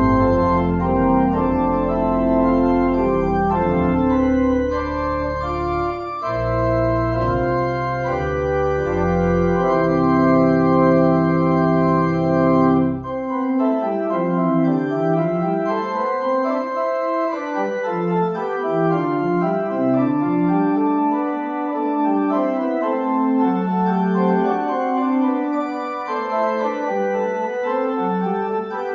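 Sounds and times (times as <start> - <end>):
deep organ pedal bass: 0.0 - 28.9
organ playing held chords: 0.0 - 28.9.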